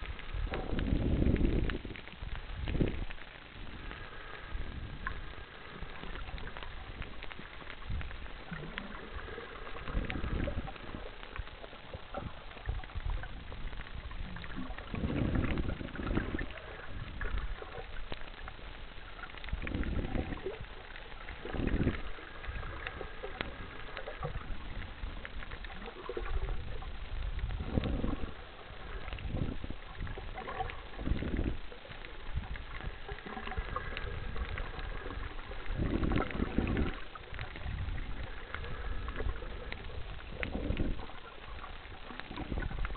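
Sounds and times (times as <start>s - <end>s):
muffled underwater water surges: 0.0s - 42.9s.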